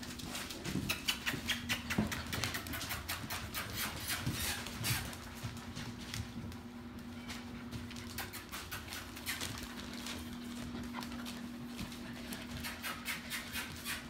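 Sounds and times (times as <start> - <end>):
puppy claws clicking on tile: 0.0 - 5.2, 7.8 - 14.0.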